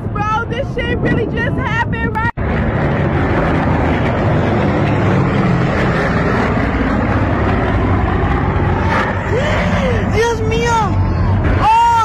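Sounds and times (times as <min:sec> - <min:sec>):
piston aircraft engines droning: 0:00.0 - 0:12.0.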